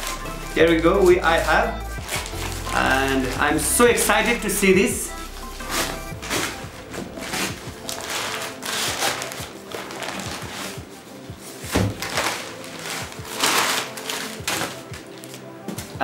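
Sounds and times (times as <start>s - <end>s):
background music: 0.0s - 16.0s
newspaper rustling and crinkling: 0.9s - 4.5s, 5.3s - 16.0s.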